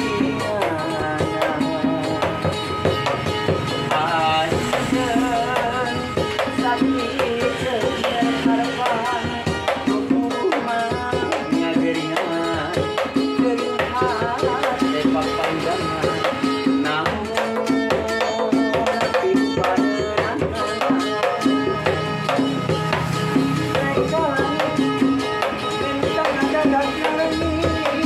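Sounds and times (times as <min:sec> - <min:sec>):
man singing: 0:00.0 - 0:23.0, 0:23.6 - 0:28.0
djembe hand drum: 0:00.0 - 0:28.0.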